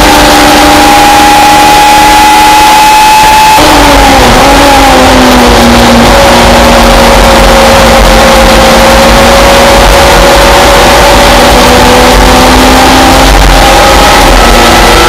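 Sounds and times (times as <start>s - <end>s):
race car engine: 0.0s - 15.0s.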